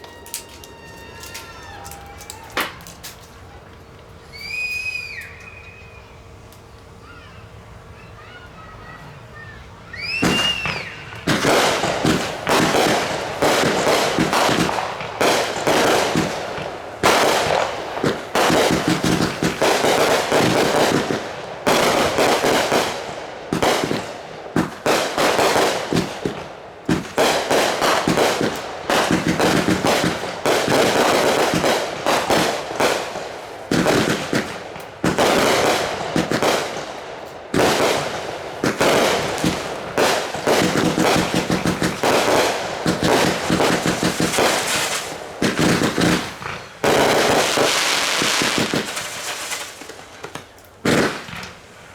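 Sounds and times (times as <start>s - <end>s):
fireworks bangs and crackling: 10.0s - 51.9s.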